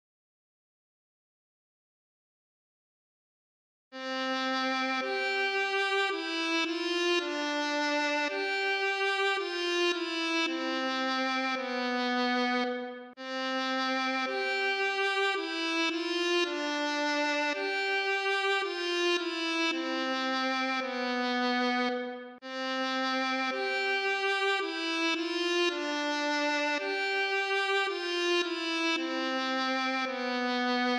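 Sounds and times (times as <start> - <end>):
bowed string melody: 4.0 - 30.9.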